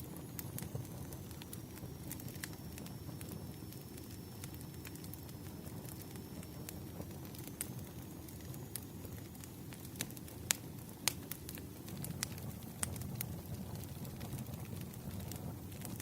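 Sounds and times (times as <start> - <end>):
firewood crackling and popping: 0.0 - 16.0
low rush of fire: 0.0 - 16.0.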